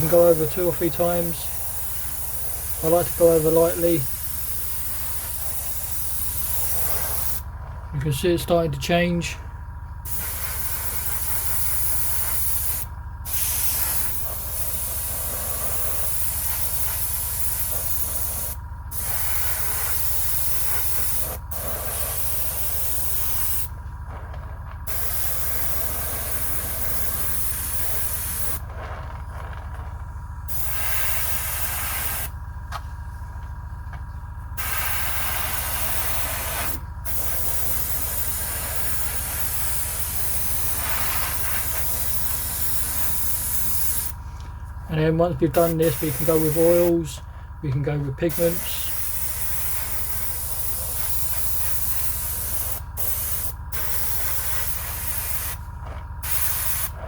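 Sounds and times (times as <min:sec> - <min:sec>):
airbrush hissing: 0:00.0 - 0:07.5, 0:10.0 - 0:23.7, 0:24.9 - 0:28.6, 0:30.5 - 0:32.4, 0:34.6 - 0:44.4, 0:45.5 - 0:47.1, 0:48.2 - 0:57.0
steady low hum: 0:00.0 - 0:57.0.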